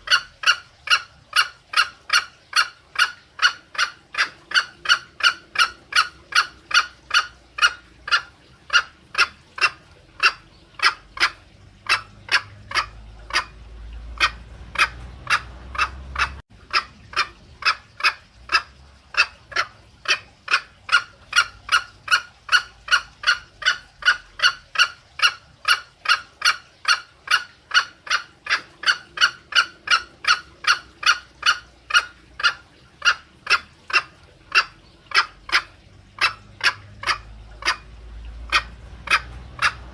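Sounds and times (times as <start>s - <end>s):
junglefowl clucking call: 0.0s - 39.9s.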